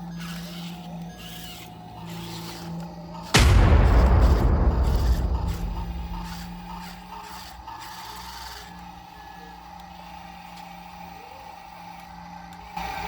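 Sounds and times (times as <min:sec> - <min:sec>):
electric gear motors whining: 0:00.0 - 0:13.0.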